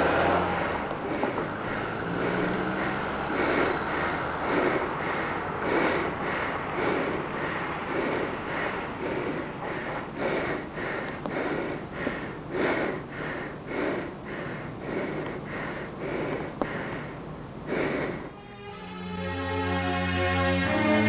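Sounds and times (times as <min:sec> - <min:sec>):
heavy breathing panting: 0:00.0 - 0:18.5.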